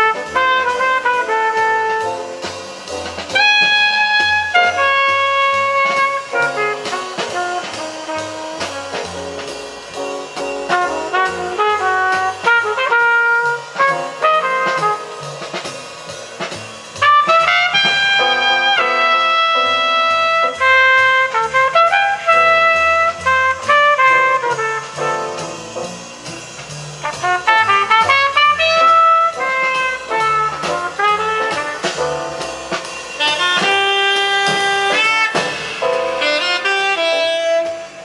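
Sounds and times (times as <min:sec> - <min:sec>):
brass lead: 0:00.0 - 0:38.0
drums: 0:00.0 - 0:38.0.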